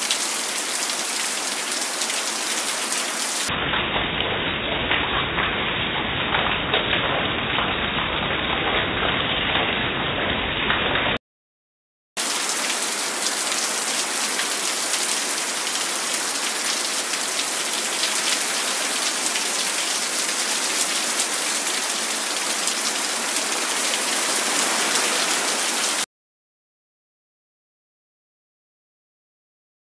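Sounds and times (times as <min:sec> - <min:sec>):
heavy rain pouring: 0:00.0 - 0:11.2, 0:12.2 - 0:26.1.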